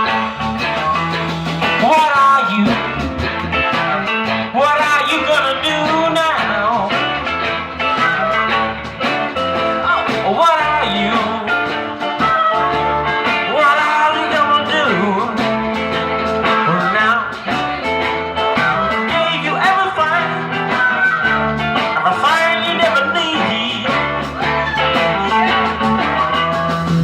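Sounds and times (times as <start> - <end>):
blues band playing: 0.0 - 27.0
electric guitar: 0.0 - 27.0.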